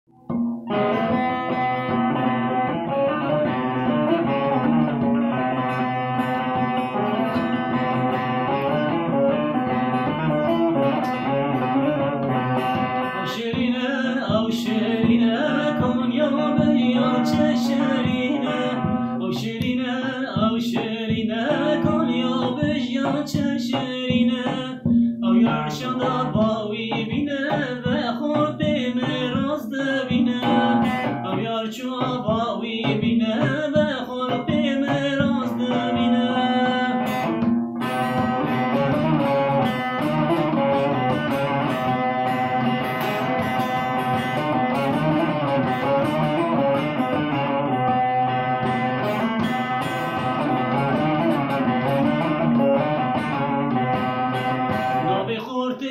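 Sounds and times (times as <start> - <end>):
plucked long-necked lute: 0.1 - 55.4
man singing folk song: 0.7 - 55.9.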